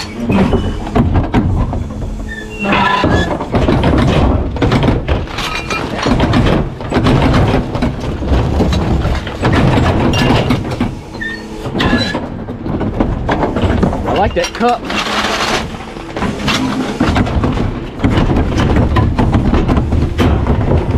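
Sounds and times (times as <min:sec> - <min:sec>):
hydraulic whine: 0:00.0 - 0:20.9
trash cracking and crunching: 0:00.0 - 0:20.9
truck engine: 0:00.0 - 0:20.9.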